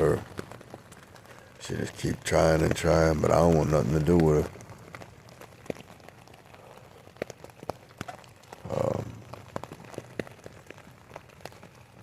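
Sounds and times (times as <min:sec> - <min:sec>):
raindrops ticking on a tent: 0:00.0 - 0:12.0.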